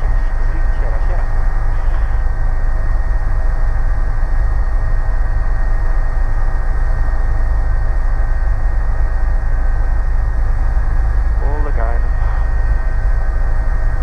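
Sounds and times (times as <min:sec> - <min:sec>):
helicopter rotor rumble: 0:00.0 - 0:14.0
turbine whine: 0:00.0 - 0:14.0.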